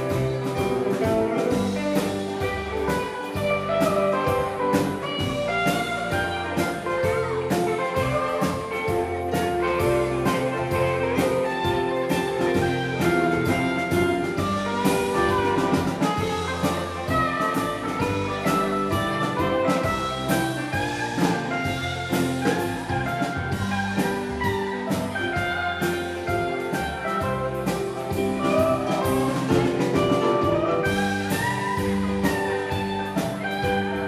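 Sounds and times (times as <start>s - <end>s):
live rock band playing: 0.0s - 34.0s.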